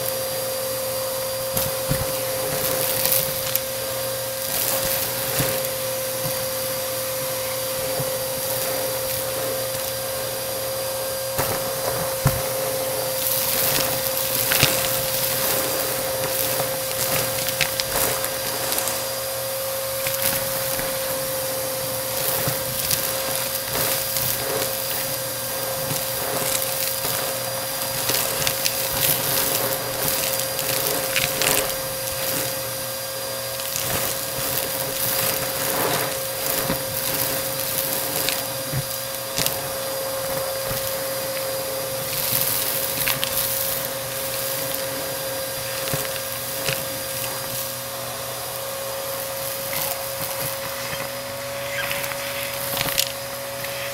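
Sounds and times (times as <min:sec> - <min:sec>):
debris crackling in vacuum: 0:00.0 - 0:53.9
vacuum cleaner whining: 0:00.0 - 0:53.9.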